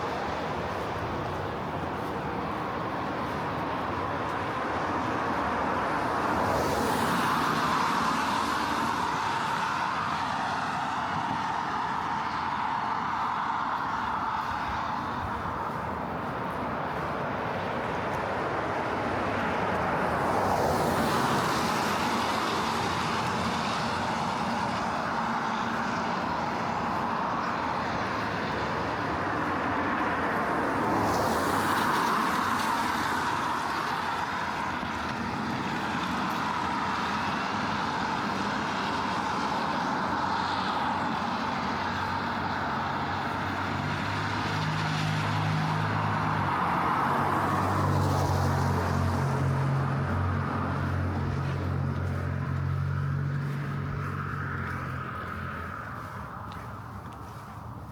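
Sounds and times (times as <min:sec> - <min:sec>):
cars passing on wet street: 0:00.0 - 0:57.9
low engine hum: 0:00.0 - 0:57.9.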